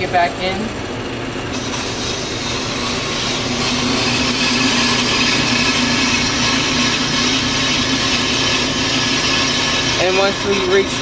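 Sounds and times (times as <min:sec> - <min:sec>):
brake lathe humming: 0:00.0 - 0:11.0
cutting bits rushing noise: 0:01.6 - 0:11.0.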